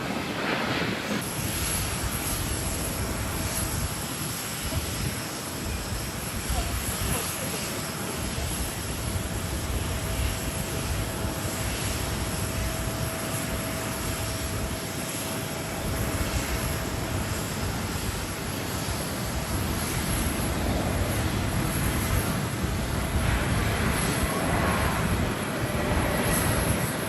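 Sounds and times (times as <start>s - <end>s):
jet engine roar: 0.0s - 27.0s
thin jet engine whine: 0.0s - 27.0s
wind rumbling on microphone: 0.0s - 27.0s.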